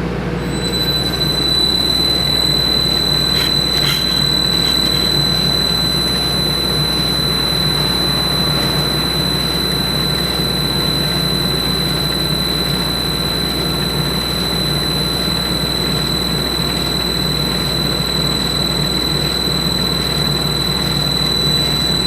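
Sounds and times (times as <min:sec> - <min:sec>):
grinder machine hum and whine: 0:00.0 - 0:22.0.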